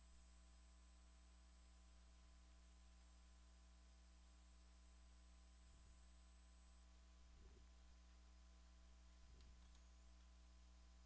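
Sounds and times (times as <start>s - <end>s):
faint high-pitched whine: 0.0s - 11.0s
low electrical hum: 0.0s - 11.0s.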